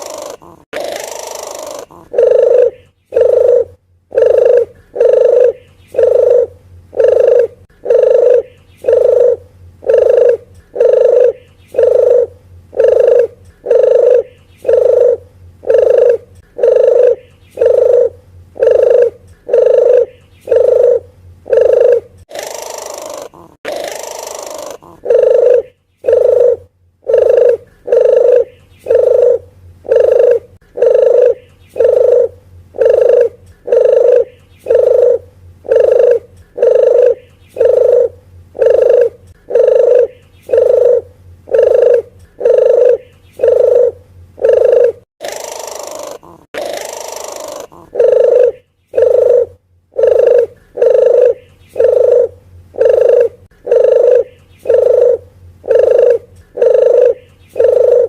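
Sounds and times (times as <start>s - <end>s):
dove cooing call: 0.0s - 58.0s.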